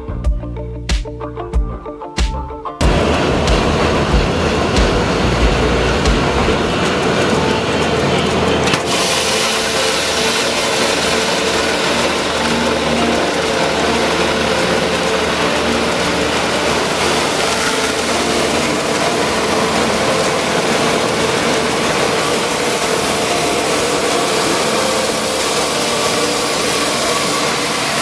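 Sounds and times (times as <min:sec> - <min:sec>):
electric mill running: 0:02.8 - 0:28.0.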